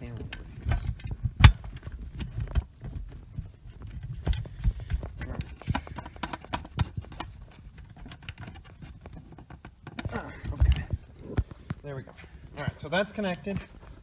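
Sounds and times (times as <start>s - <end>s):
hands handling cable and connector: 0.2s - 14.0s.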